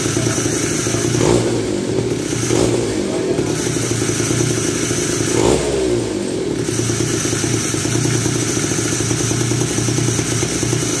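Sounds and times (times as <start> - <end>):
small two-stroke engine idling: 0.0 - 11.0.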